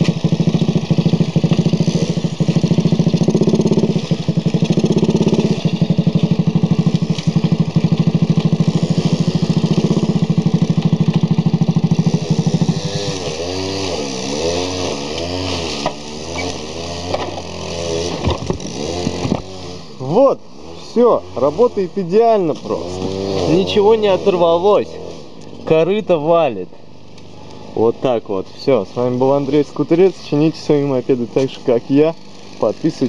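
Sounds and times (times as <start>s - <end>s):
moped engine revving: 0.0s - 33.0s.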